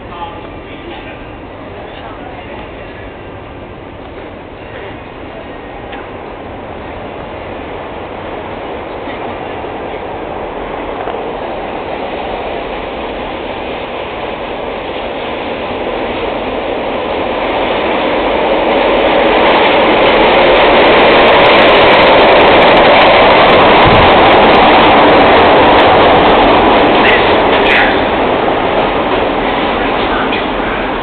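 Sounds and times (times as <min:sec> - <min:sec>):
subway train rumbling into station: 0:00.0 - 0:31.0.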